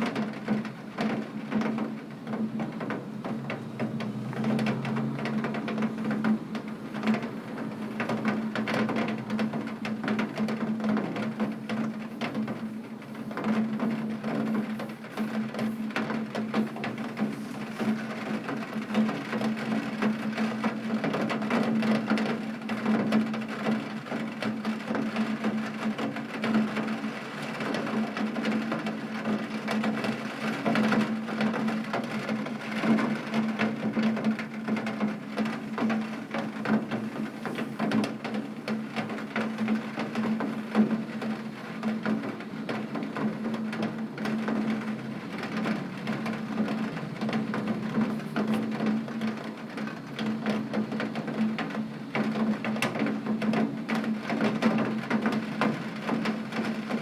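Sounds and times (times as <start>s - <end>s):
heavy rain on window glass: 0.0s - 57.0s.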